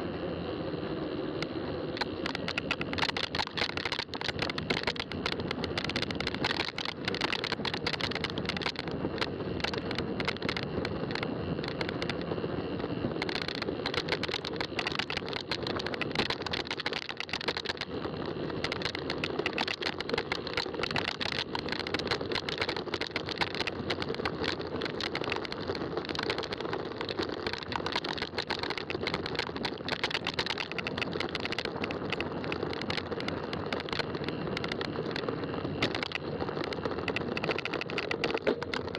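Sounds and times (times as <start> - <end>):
bike tyres rolling: 0.0 - 38.9
small clicks and rattles: 0.0 - 38.9.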